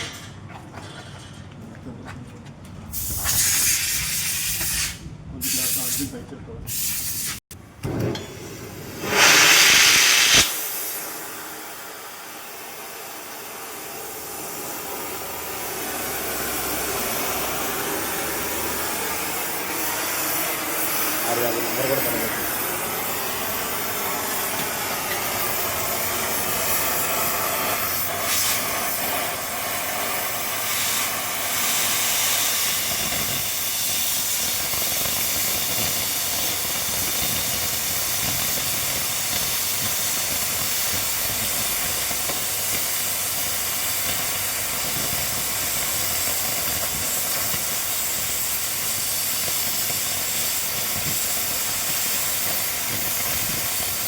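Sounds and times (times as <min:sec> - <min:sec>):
cutting torch hissing: 0:02.9 - 0:07.5, 0:08.2 - 0:54.0.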